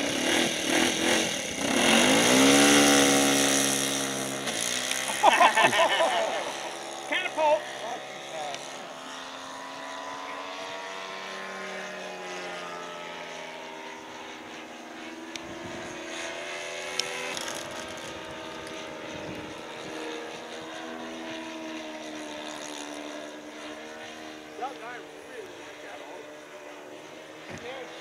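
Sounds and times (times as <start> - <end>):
model airplane motor droning: 0.0 - 28.0.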